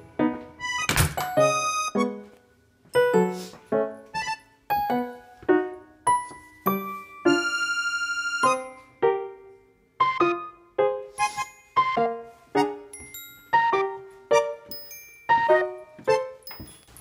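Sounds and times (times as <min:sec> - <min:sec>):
piano-like keyboard melody: 0:00.0 - 0:17.0.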